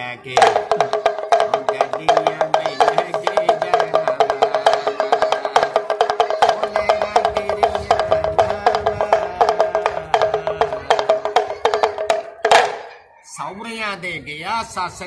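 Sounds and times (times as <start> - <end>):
pellet drum rattling: 0.3 - 13.0.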